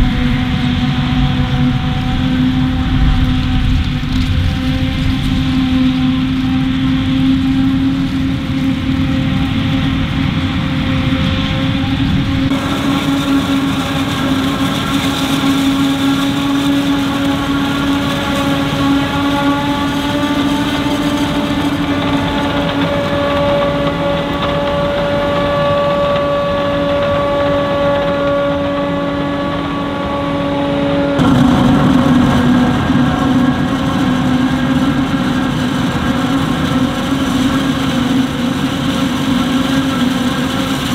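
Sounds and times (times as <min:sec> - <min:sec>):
low engine drone: 0:00.0 - 0:40.9
steady machine whine: 0:00.0 - 0:40.9.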